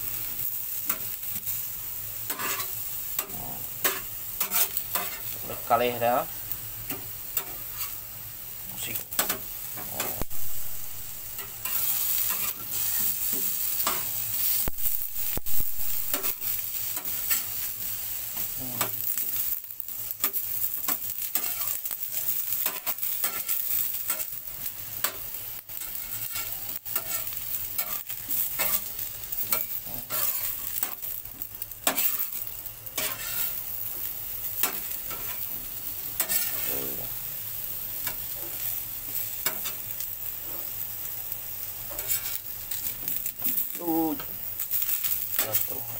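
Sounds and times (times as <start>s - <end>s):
food sizzling over fire: 0.0s - 45.9s
wood fire crackling and popping: 8.7s - 45.9s.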